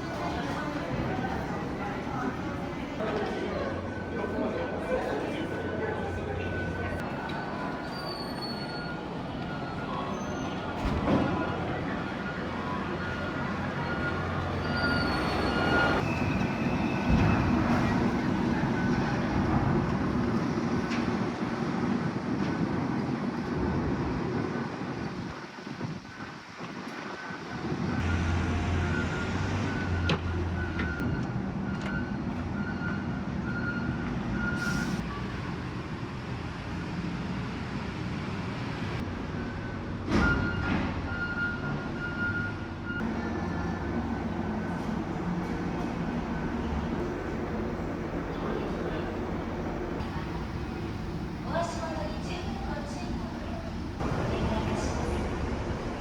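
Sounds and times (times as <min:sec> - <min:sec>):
engine and machinery rumble: 0:08.7 - 0:56.0.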